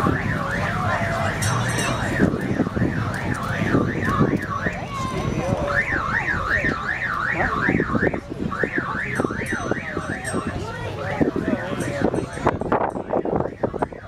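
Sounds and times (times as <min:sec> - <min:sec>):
car alarm siren wailing: 0:00.0 - 0:11.3, 0:13.1 - 0:14.0.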